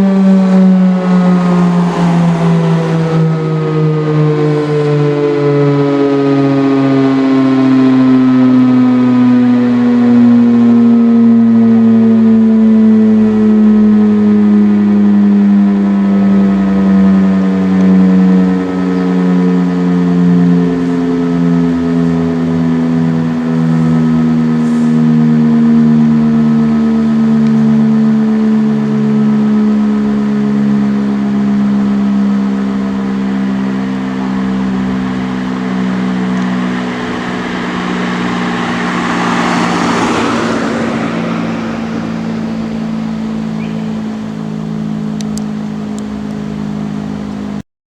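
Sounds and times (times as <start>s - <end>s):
civil defence siren winding down: 0.0s - 47.6s.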